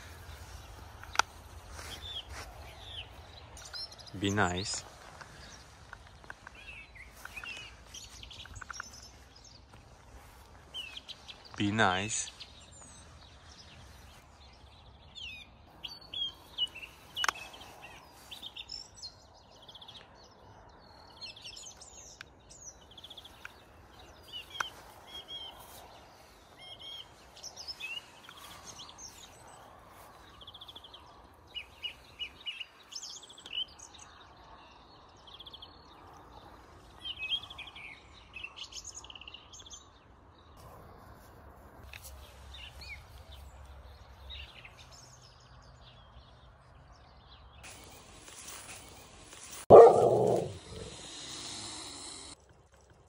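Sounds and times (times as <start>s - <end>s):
faint outdoor background noise: 0.0s - 53.0s
songbirds chirping and singing: 0.0s - 53.0s.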